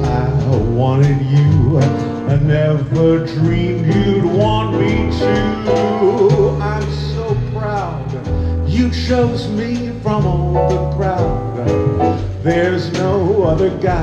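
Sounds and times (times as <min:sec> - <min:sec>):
drums: 0:00.0 - 0:14.0
guitar-like bending notes: 0:00.0 - 0:14.0
keyboard: 0:00.0 - 0:14.0
steady bass line: 0:00.0 - 0:14.0.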